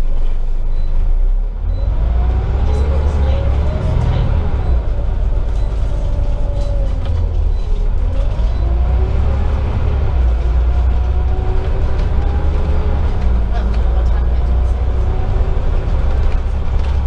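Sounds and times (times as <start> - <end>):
bus engine rumble: 0.0 - 17.0
drivetrain whine: 0.0 - 17.0.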